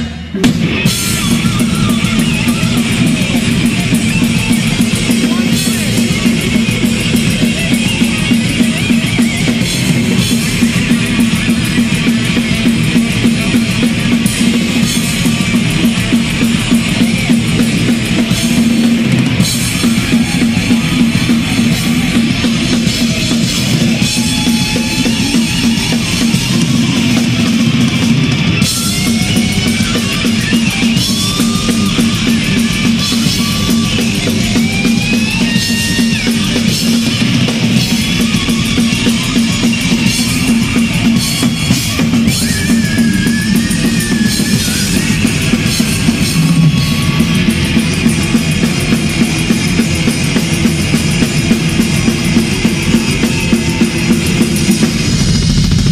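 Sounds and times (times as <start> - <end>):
high sliding guitar lead: 0.0 - 55.9
metal band playing: 0.0 - 55.9.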